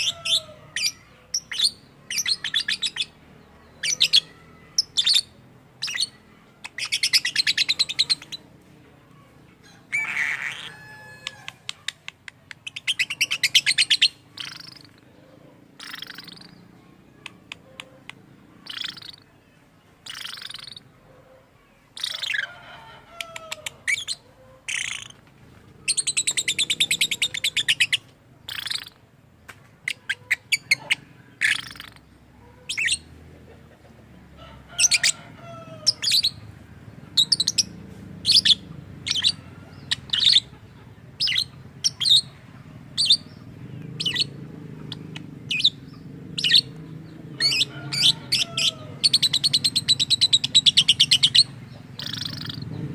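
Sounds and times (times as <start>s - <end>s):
lovebird chirping and chattering: 0.0s - 8.5s, 9.9s - 15.1s, 15.8s - 19.3s, 20.0s - 21.0s, 22.0s - 22.5s, 23.2s - 29.0s, 29.8s - 33.1s, 34.8s - 35.2s, 35.8s - 52.9s.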